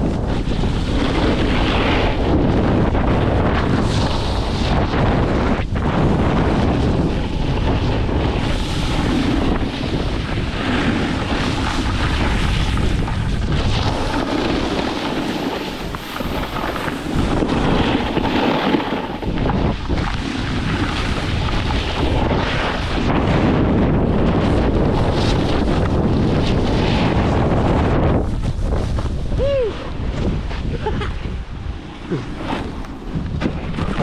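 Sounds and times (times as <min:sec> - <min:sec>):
snowboard scraping over snow: 0:00.0 - 0:34.0
wind buffeting microphone: 0:00.0 - 0:34.0.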